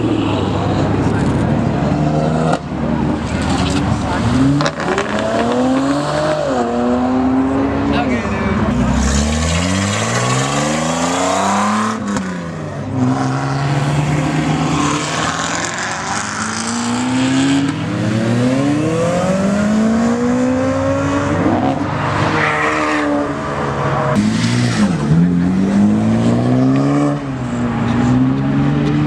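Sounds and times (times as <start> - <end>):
car engines accelerating hard: 0.0 - 29.0.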